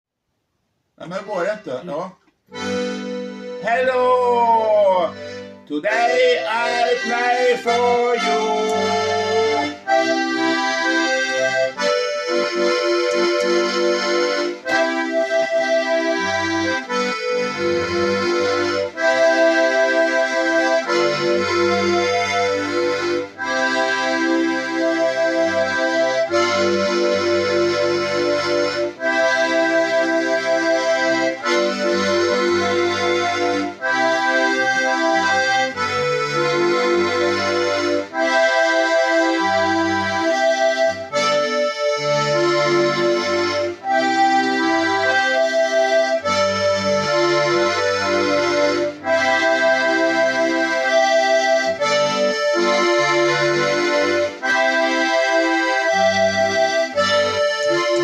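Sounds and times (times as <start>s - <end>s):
solo instrument playing chords: 2.5s - 58.0s.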